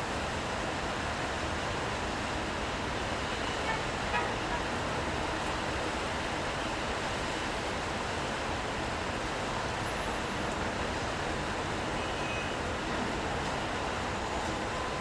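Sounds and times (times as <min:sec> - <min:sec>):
rain: 0:00.0 - 0:15.0
traffic on wet streets: 0:00.0 - 0:15.0.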